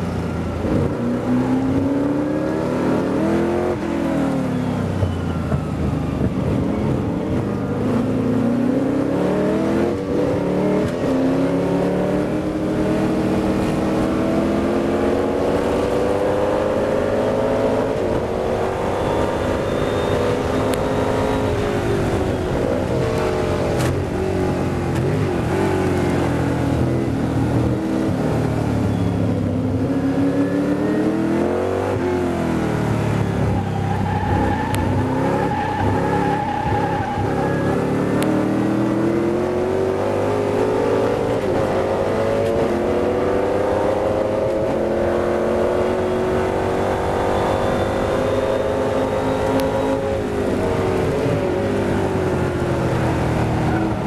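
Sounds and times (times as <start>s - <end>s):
racing car engine: 0.0s - 54.0s.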